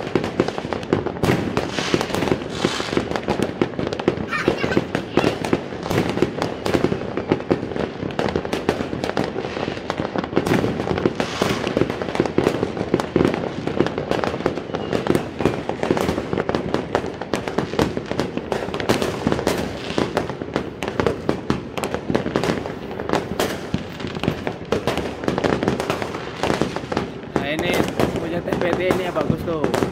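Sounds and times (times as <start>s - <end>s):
fireworks barrage: 0.0s - 29.9s.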